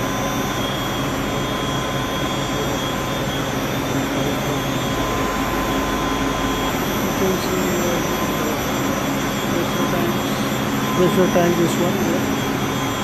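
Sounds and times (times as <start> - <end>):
pump motors whirring: 0.0 - 13.0.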